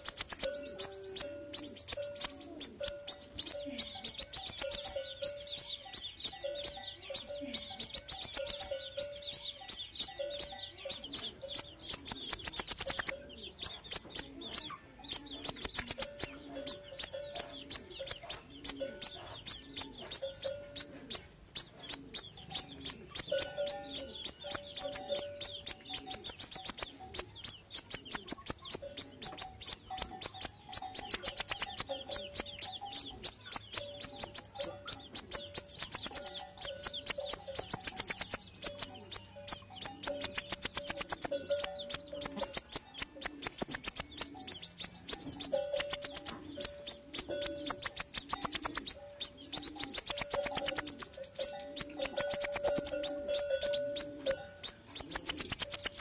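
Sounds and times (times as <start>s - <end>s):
bird singing rapid high notes: 0.0s - 56.0s.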